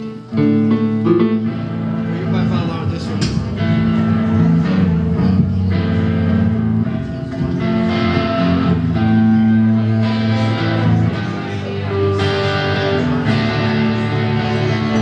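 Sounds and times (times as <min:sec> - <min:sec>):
bass notes: 0:00.0 - 0:15.0
guitar chords: 0:00.0 - 0:15.0.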